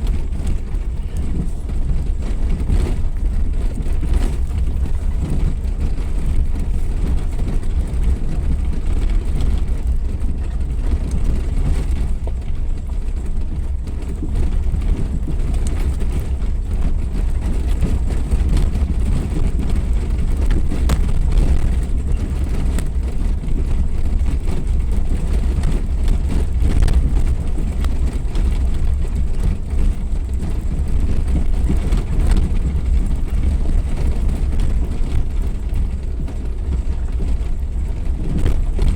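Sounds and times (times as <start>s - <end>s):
knocks and rattles: 0.0s - 38.9s
vehicle engine rumbling: 0.0s - 38.9s.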